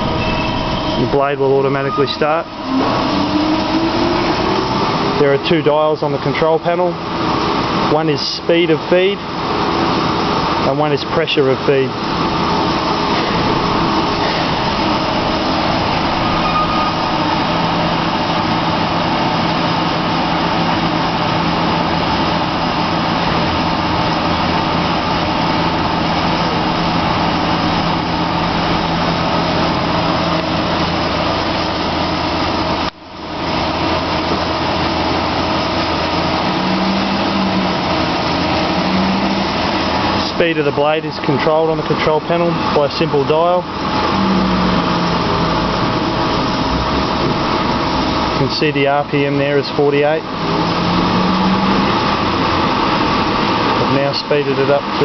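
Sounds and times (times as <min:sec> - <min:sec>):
band saw running: 0:00.0 - 0:08.1, 0:09.0 - 0:55.0.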